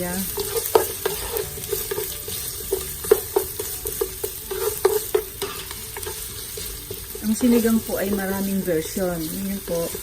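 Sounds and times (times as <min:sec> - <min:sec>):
ginger sizzling in oil: 0:00.0 - 0:10.0
spatula knocking and scraping pan: 0:00.0 - 0:10.0.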